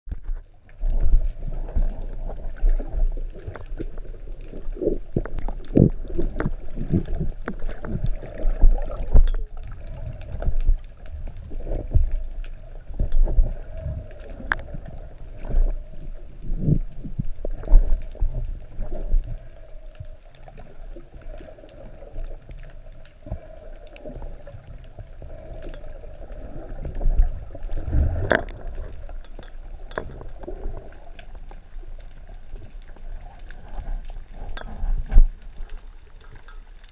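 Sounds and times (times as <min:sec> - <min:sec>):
muffled underwater noise: 0:00.2 - 0:36.9.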